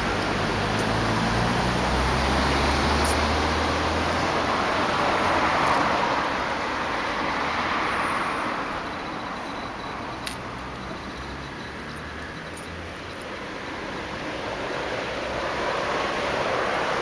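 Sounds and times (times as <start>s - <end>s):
passing vehicle road noise: 0.0s - 17.0s.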